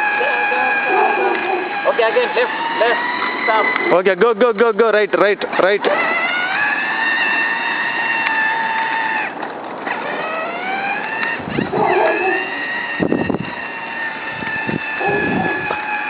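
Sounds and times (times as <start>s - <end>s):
small electric motor whine: 0.0s - 4.4s, 5.5s - 16.0s.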